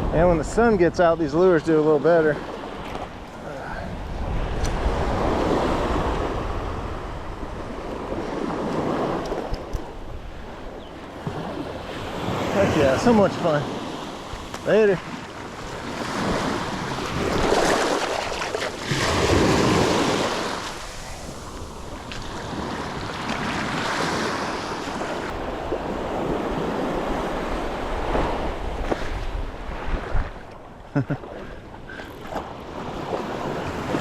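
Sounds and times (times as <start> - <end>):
wind rumbling on microphone: 0.0 - 1.7, 2.5 - 34.0
small waves breaking on beach: 0.0 - 34.0.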